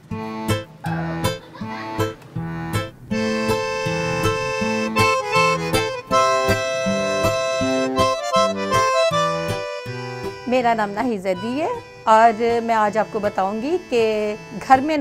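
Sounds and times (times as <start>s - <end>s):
held melody: 0.0s - 15.0s
plucked bass line: 0.0s - 15.0s.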